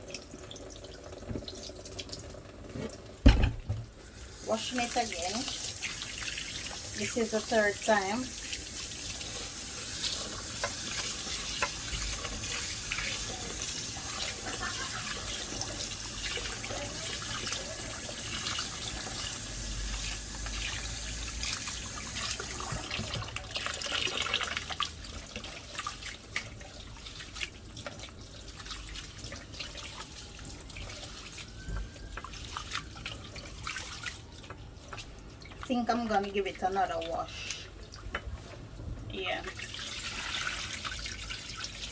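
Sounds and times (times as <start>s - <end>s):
tap water running: 0.0s - 41.9s
water splashes and drips: 0.0s - 41.9s
rice washed by hand: 3.5s - 38.7s, 39.4s - 41.9s.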